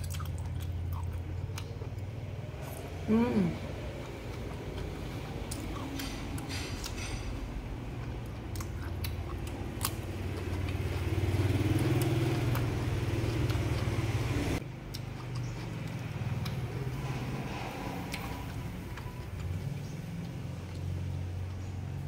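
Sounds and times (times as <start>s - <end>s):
cucumber crunching and chewing: 0.0s - 22.0s.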